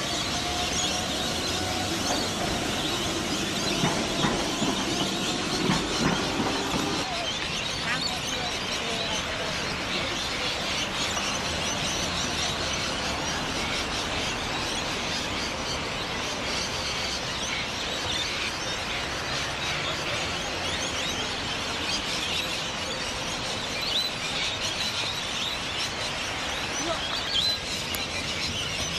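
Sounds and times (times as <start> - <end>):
birds chattering and chirping: 0.0 - 28.9
street traffic hum: 0.0 - 28.9.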